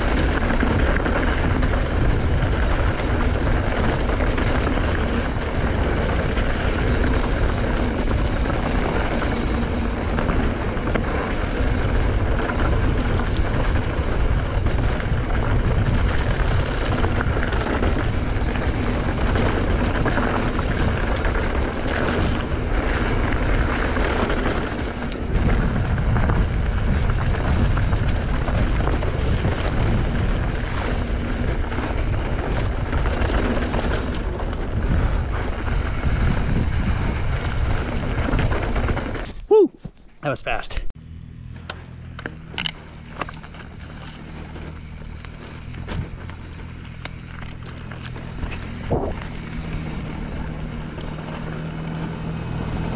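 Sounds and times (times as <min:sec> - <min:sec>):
tyres rumbling on dirt: 0:00.0 - 0:39.5, 0:41.0 - 0:52.9
wind rushing over microphone: 0:00.0 - 0:39.5, 0:43.1 - 0:52.9
bike rattling: 0:00.0 - 0:40.1, 0:41.0 - 0:52.9.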